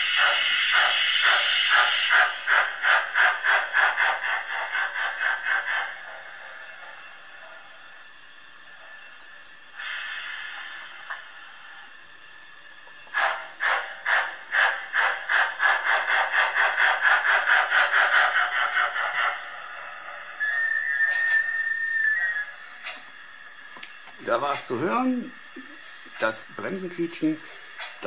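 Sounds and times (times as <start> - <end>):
model steam locomotive chuffing: 0.0 - 28.0
steady steam hiss: 0.0 - 28.0.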